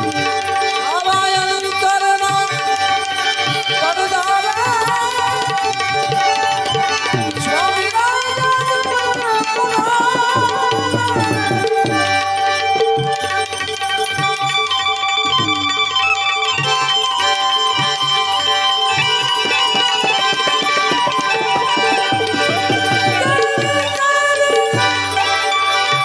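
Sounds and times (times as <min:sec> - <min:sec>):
ornamented melody line: 0:00.0 - 0:26.0
tabla playing a rhythm: 0:00.0 - 0:26.0.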